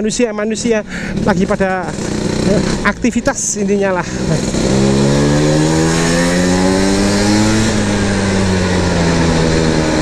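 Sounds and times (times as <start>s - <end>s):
scooter engine accelerating: 0.8s - 10.0s.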